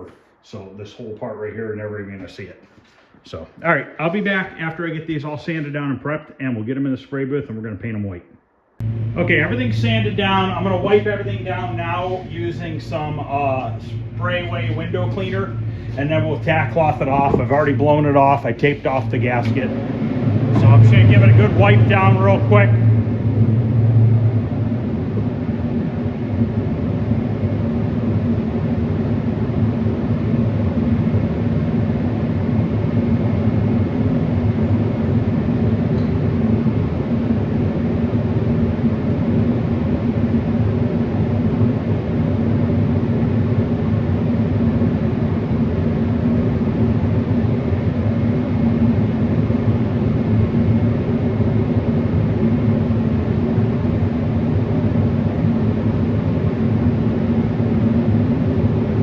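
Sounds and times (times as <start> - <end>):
machinery droning: 8.8 - 59.0.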